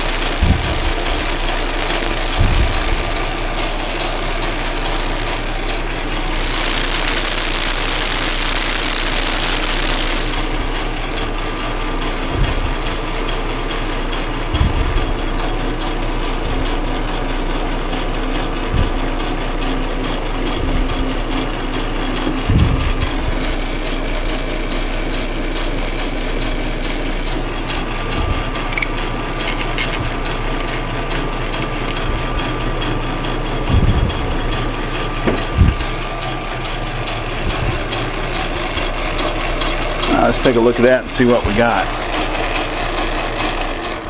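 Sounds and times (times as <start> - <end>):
metal lathe running: 0.0 - 44.0.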